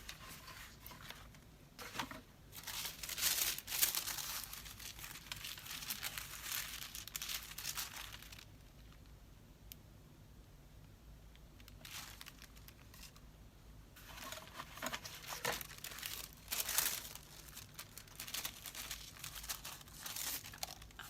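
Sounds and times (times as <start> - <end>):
paper rustling and crinkling: 0.0 - 8.5, 11.6 - 13.2, 14.0 - 21.0.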